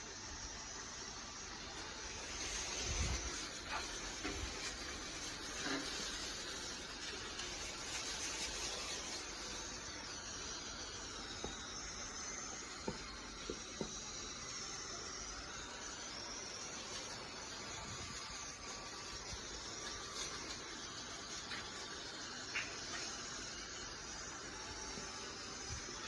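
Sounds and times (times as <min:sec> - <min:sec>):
pressure washer spray hissing: 0:00.1 - 0:26.0.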